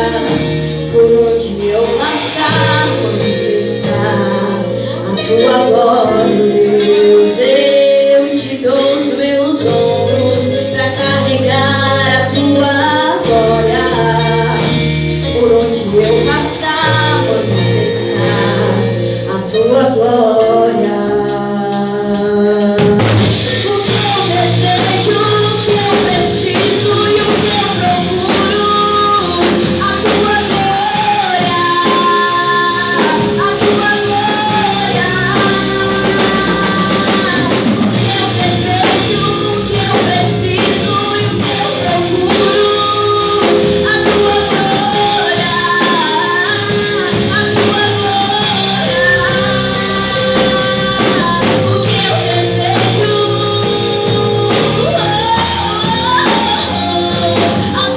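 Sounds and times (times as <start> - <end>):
gliding melodic lead line: 0.0 - 21.6, 22.8 - 57.9
drum kit: 0.0 - 57.9
gospel band playing: 0.0 - 57.9
guitar: 0.0 - 57.9.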